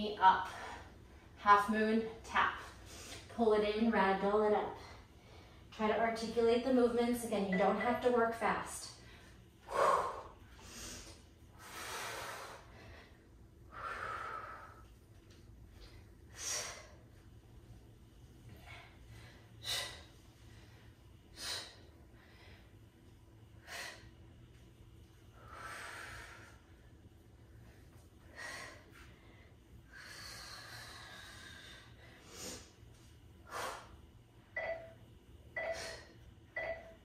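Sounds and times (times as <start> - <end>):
woman breathing heavily: 0.2 - 1.4, 2.6 - 3.4, 4.5 - 5.8, 8.9 - 34.8, 35.6 - 36.9.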